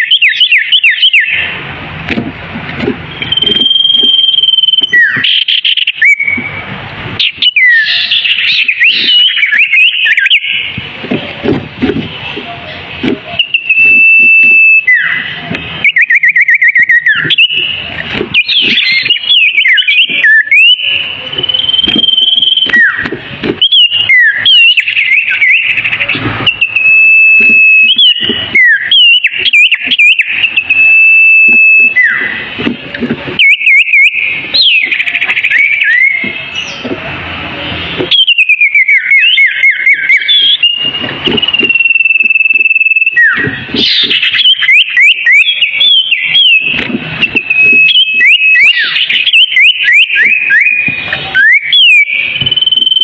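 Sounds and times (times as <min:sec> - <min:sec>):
songbird singing: 0:00.0 - 0:01.8, 0:03.0 - 0:53.0.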